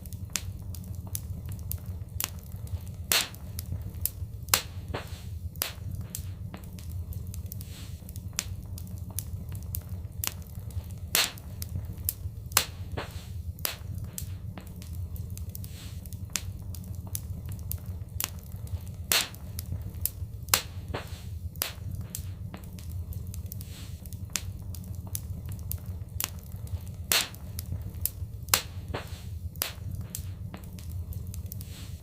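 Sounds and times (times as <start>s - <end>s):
fire crackling and popping: 0.0s - 32.0s
low rumble of flames: 0.0s - 32.0s.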